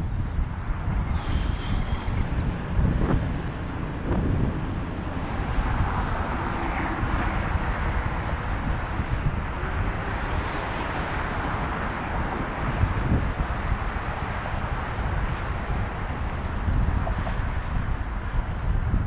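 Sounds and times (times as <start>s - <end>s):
road noise: 0.0s - 19.0s
wind rumble: 0.0s - 19.0s.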